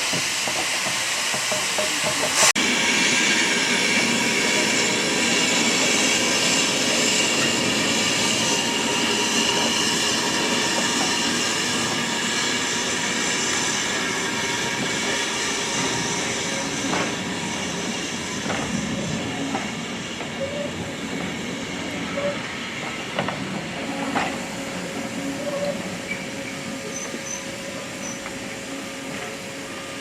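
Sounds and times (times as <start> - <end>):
train rolling on track: 0.0 - 30.0
wheels squealing on rails: 0.0 - 30.0.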